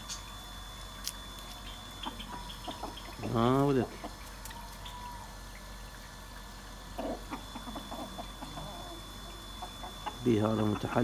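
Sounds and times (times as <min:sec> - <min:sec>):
chickens clucking: 0:01.6 - 0:11.0.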